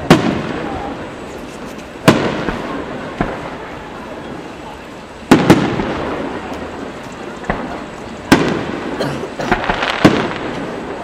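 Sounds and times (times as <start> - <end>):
firework crackling and rumbling: 0.0 - 11.0.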